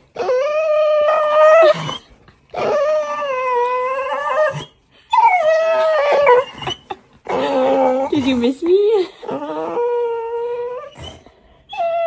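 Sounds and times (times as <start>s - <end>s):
dog whining squeals: 0.1s - 8.4s, 9.3s - 12.0s.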